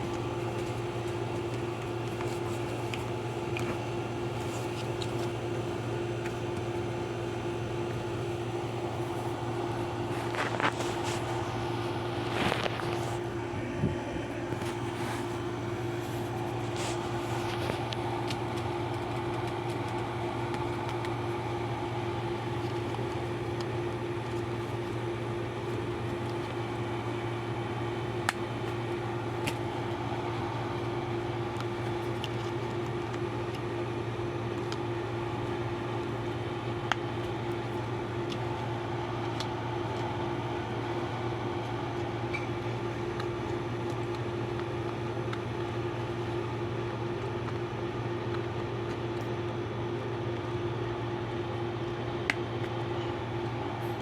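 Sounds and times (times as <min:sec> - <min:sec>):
ceiling fan motor humming: 0:00.0 - 0:54.0.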